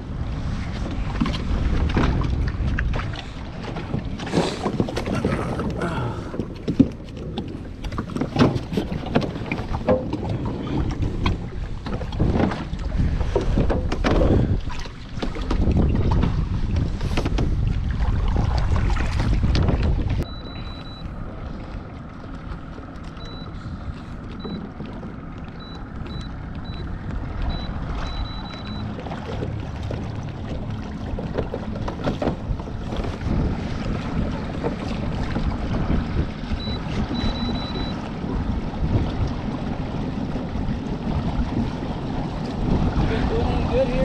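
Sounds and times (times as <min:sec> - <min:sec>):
wind buffeting microphone: 0:00.0 - 0:22.7, 0:23.3 - 0:44.0
water lapping against hull: 0:00.0 - 0:44.0.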